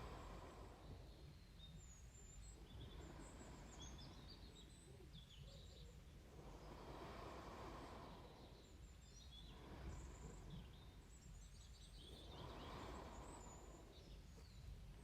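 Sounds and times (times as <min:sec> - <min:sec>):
faint low hum: 0:00.0 - 0:15.0
soft slow breathing: 0:00.0 - 0:15.0.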